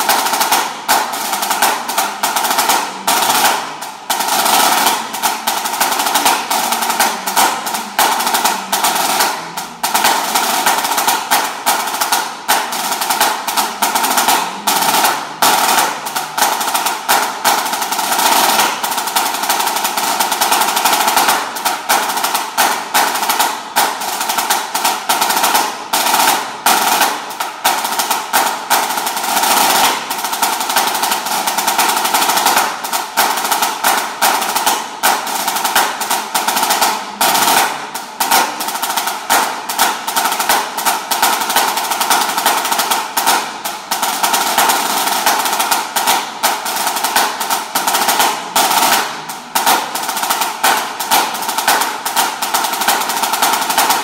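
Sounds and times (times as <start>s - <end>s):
snare drum rolls: 0.0s - 54.0s.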